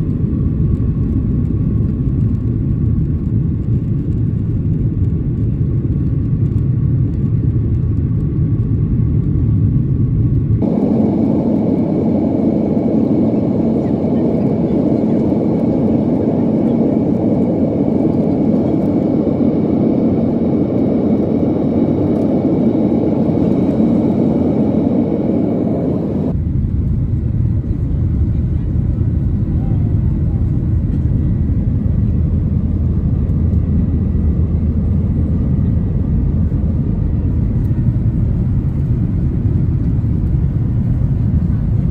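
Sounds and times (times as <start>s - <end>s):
jet engine and airflow noise: 0.0s - 41.9s.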